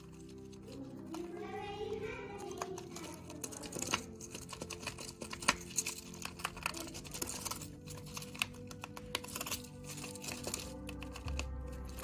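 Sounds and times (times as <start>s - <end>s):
hamster gnawing cardboard: 2.1s - 12.0s.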